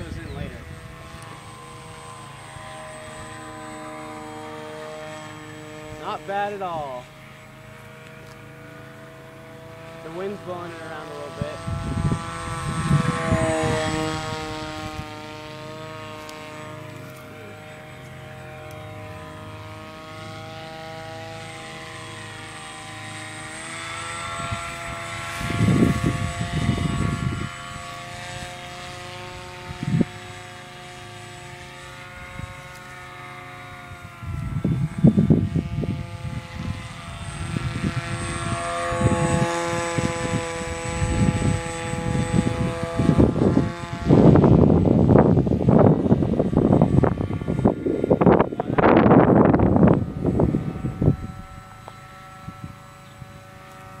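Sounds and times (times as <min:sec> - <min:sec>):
wind rumbling on microphone: 0:00.0 - 0:07.0, 0:09.5 - 0:17.3, 0:18.3 - 0:54.0
model plane motor whining: 0:00.0 - 0:54.0.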